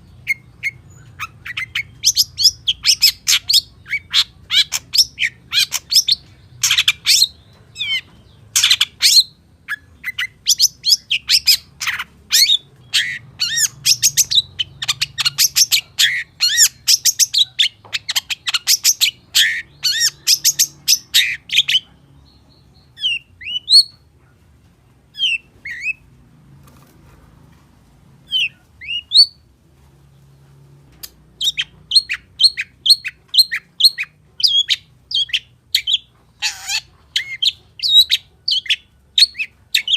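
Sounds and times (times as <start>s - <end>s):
bird chattering song: 0.0s - 24.1s, 25.1s - 26.0s, 28.3s - 29.4s, 31.4s - 39.9s.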